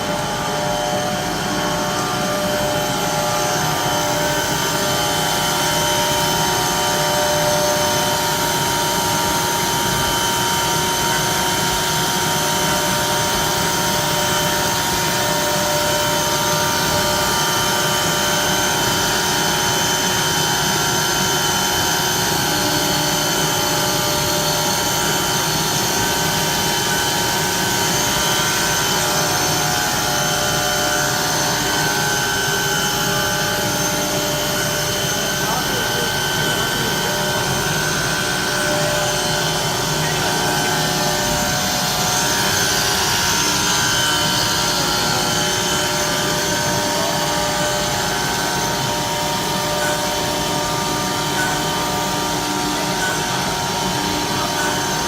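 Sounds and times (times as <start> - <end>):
cnc router whining: 0.0 - 55.0.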